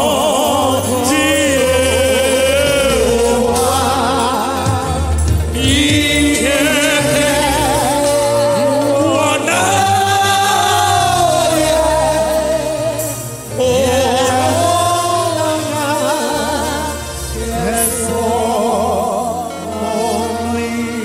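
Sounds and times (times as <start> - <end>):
steady bass line: 0.0 - 20.9
gospel singing voices: 0.0 - 21.0.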